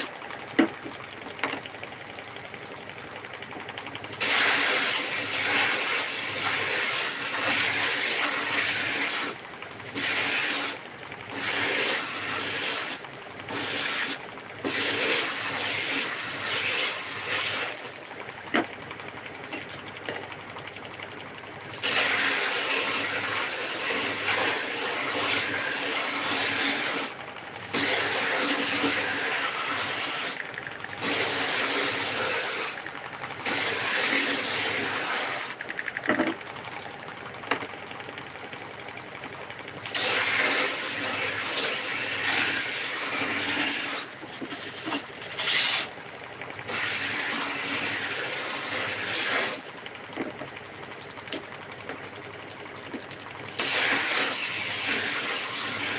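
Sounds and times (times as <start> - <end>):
belt sander motor running: 0.0 - 55.9.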